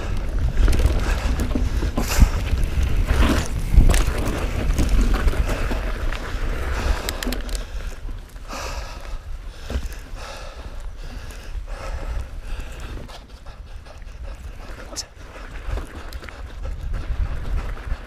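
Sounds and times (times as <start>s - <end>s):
bike tyres rattling over trail: 0.0s - 18.0s
wind rumbling on microphone: 0.0s - 18.0s.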